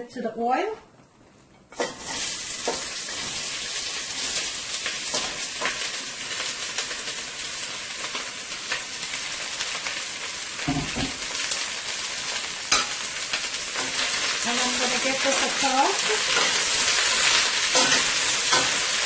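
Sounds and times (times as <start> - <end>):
vegetables sizzling in oil: 1.7 - 19.0.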